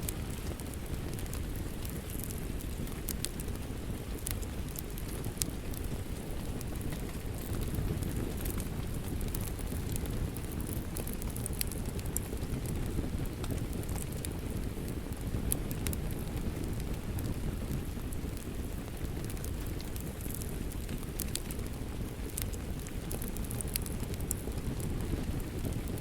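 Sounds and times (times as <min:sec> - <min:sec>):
steady rain: 0:00.0 - 0:26.0
wood fire crackling: 0:00.0 - 0:26.0.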